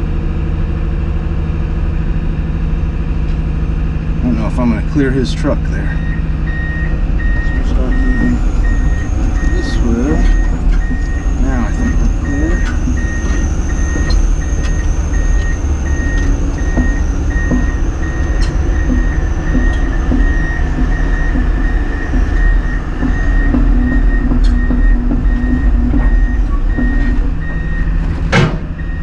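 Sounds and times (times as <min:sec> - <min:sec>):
excavator diesel engine running: 0:00.0 - 0:29.0
travel alarm beeping: 0:05.7 - 0:29.0.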